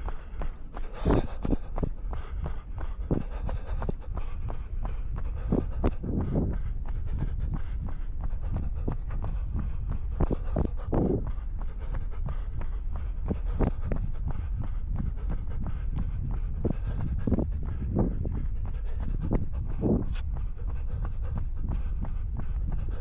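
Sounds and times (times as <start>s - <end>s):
runner breathing: 0.0s - 23.0s.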